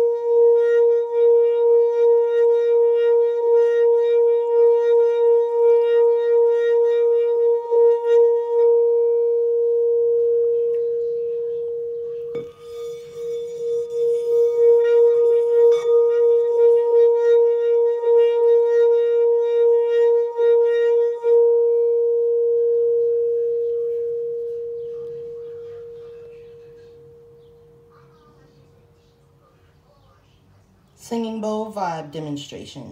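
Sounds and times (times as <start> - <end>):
singing bowl ringing tone: 0.0 - 29.4.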